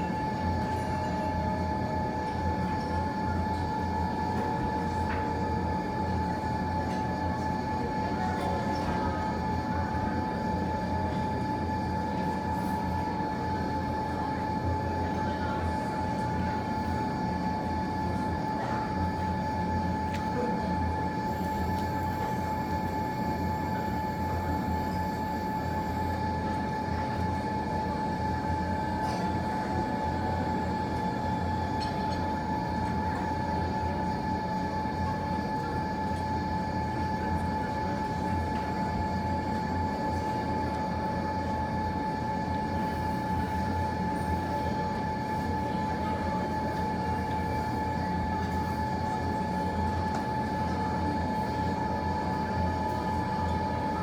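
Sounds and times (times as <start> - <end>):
mechanical hum with high whine: 0.0 - 54.0.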